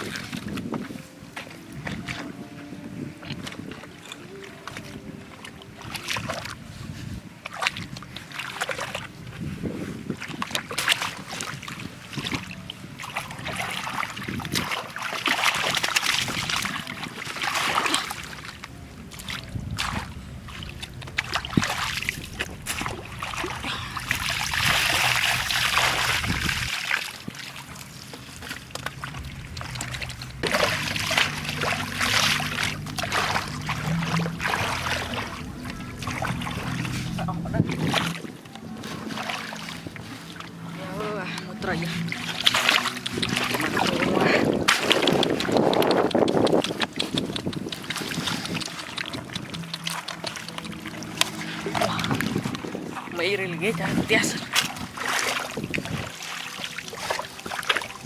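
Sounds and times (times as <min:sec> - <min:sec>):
shallow water splashing: 0:00.0 - 0:58.0.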